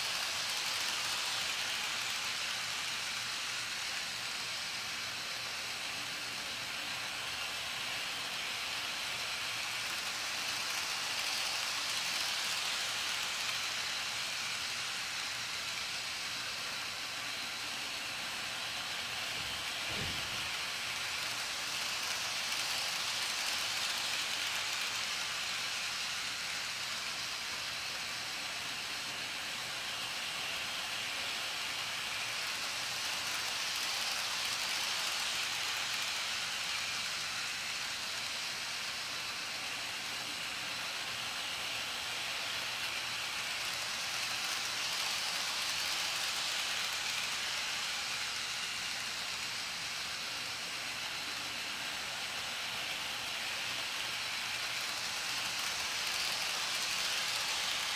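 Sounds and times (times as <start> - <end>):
toy train whirring rattle: 0.0 - 57.9.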